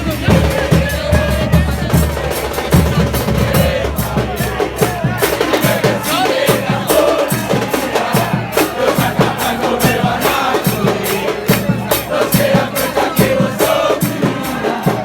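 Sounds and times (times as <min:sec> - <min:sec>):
bass drums and snares beating: 0:00.0 - 0:15.0
crowd chanting in unison: 0:00.0 - 0:15.0.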